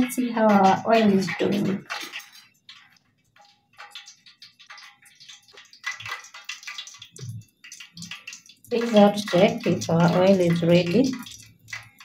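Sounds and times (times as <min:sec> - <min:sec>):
oil crackling and popping in pot: 0:00.0 - 0:12.0.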